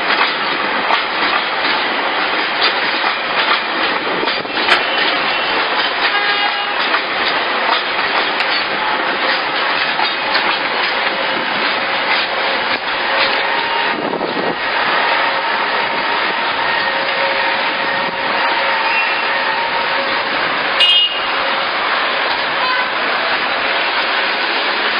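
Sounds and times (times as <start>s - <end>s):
train rolling on rails: 0.0s - 24.9s.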